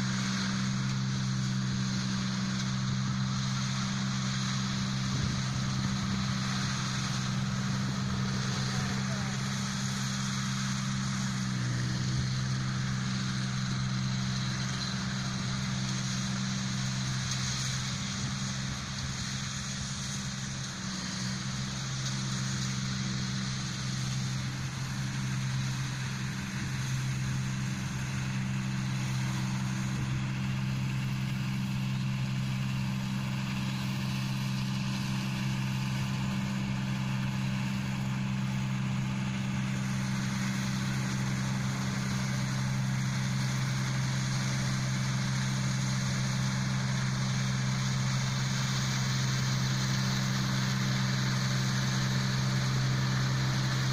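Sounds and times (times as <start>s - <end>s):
combine harvester running: 0.0s - 53.9s.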